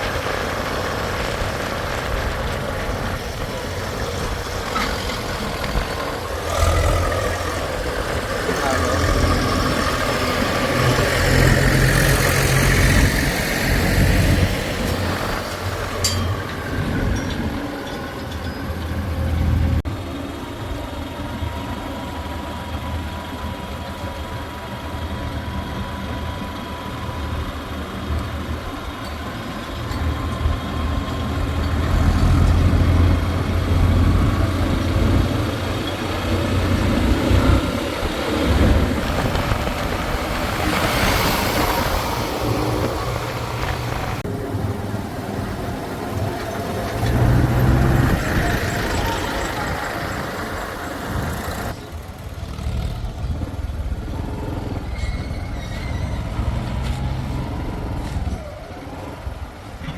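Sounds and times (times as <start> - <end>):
diesel engines rumbling: 0.0 - 59.9.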